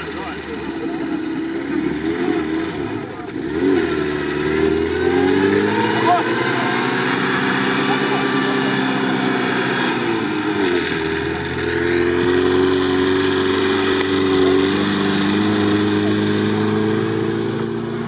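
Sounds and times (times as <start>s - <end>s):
car engine revving high: 0.0s - 18.0s
wheels spinning in sand: 0.0s - 18.0s.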